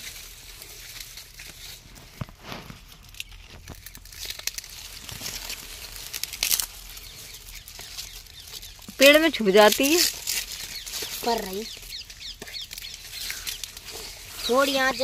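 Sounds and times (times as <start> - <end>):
dry leaves and stalks rustling: 0.0 - 15.0.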